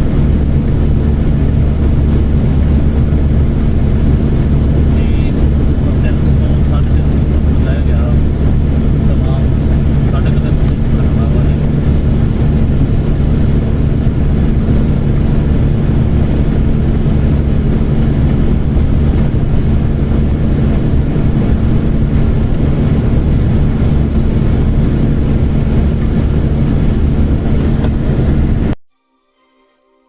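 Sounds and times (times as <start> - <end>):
road noise: 0.0 - 28.8
truck diesel engine drone: 0.0 - 28.8.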